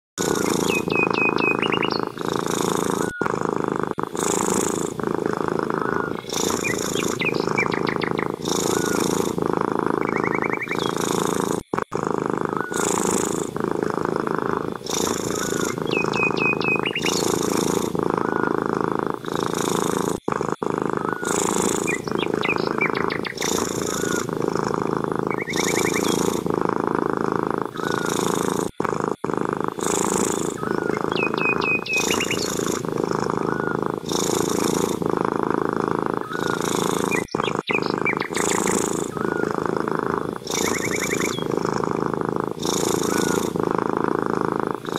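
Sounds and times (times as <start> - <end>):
cat chirping trills: 0.2 - 3.4, 4.1 - 11.2, 12.4 - 19.7, 20.9 - 26.5, 27.7 - 28.4, 29.8 - 34.8, 36.1 - 43.7
cat purring: 0.2 - 44.9.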